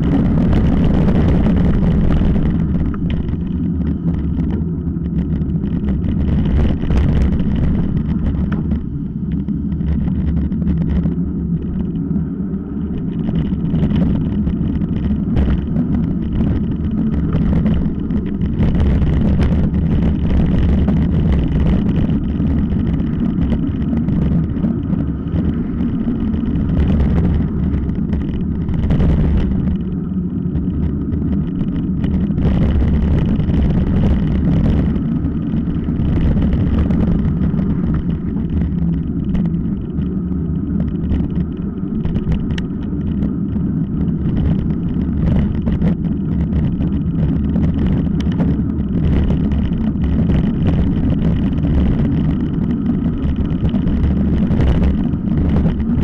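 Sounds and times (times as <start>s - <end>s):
bike rattles and knocks: 0.0s - 56.0s
tyres on gravel track: 0.0s - 56.0s
wind rumble on microphone: 0.0s - 56.0s.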